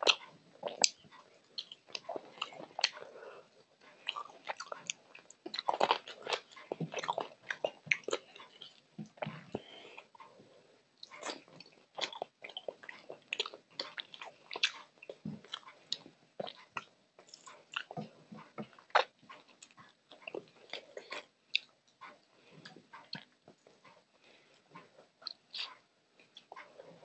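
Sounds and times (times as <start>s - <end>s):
close chewing and biting: 0.0s - 10.4s, 11.0s - 27.0s.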